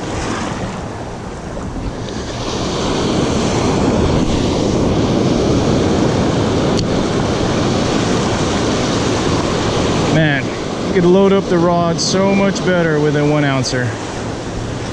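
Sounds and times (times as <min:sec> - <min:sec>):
surf washing up beach: 0:00.0 - 0:14.9
wind buffeting microphone: 0:00.0 - 0:14.9.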